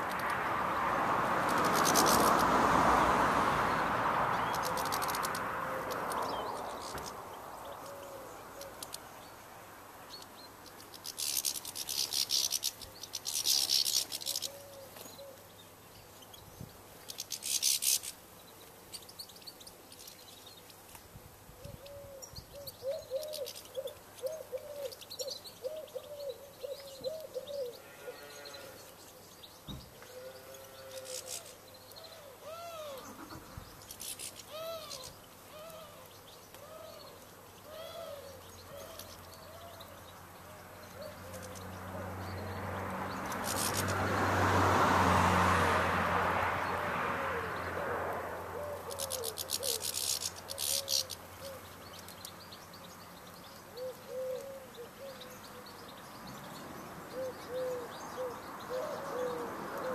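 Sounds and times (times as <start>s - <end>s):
fast trilling birdsong: 3.7s - 9.4s, 10.1s - 20.8s, 21.7s - 44.1s, 48.6s - 59.7s.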